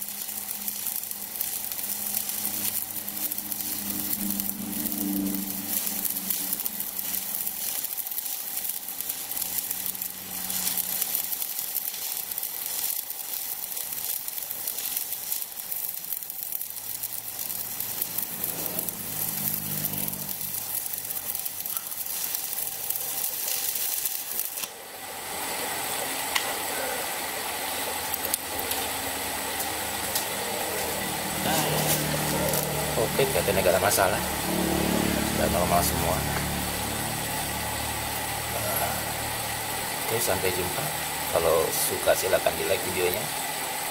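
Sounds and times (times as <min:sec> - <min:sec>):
welding arc burning: 0:00.0 - 0:43.9.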